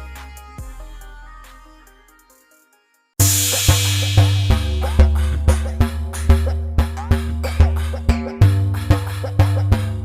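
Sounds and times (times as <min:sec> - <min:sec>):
music with bass and drum beat: 0:00.0 - 0:02.4, 0:03.2 - 0:10.0
background music: 0:00.0 - 0:10.0.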